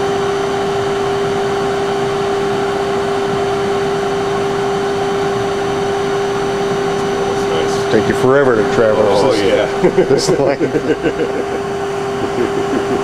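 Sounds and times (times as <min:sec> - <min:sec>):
grinder machine hum: 0:00.0 - 0:13.0.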